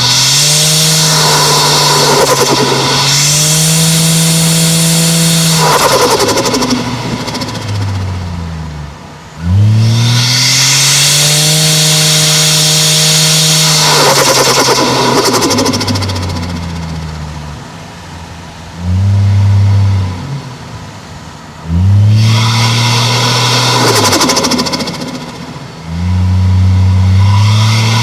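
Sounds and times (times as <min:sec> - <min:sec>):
turbo flutter: 0:00.0 - 0:08.6, 0:09.6 - 0:18.6, 0:22.2 - 0:28.0
car engine accelerating hard: 0:00.0 - 0:28.0.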